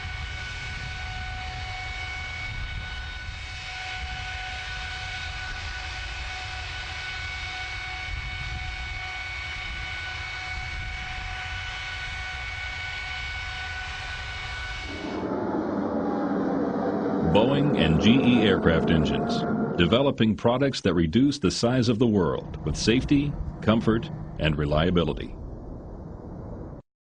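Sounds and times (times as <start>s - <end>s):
high whining tones: 0.0s - 20.4s, 21.7s - 26.8s
deep jet engine noise: 0.0s - 26.9s.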